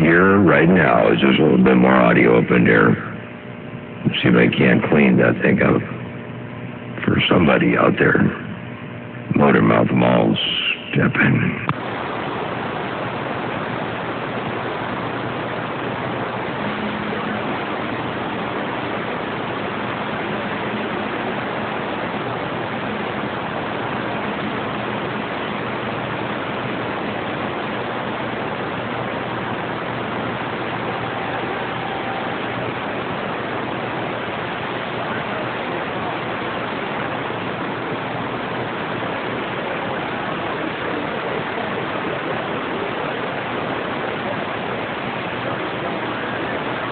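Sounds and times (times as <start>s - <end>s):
radio static hiss: 0.0s - 46.9s.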